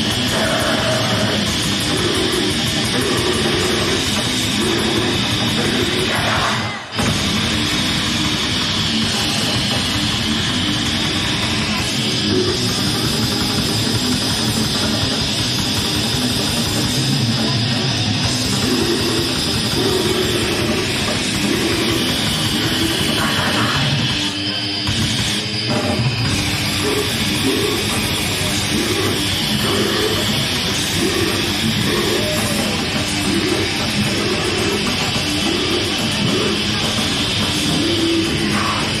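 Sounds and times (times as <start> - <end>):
metal band playing live: 0.0 - 39.0.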